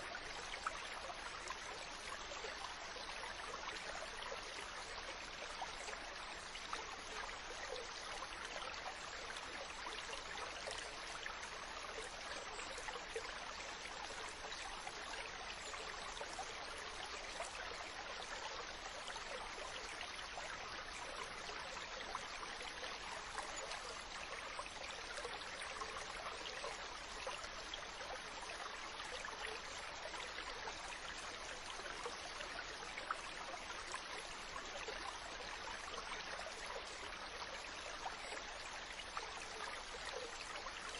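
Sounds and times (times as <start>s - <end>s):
small stream babbling: 0.0s - 40.9s.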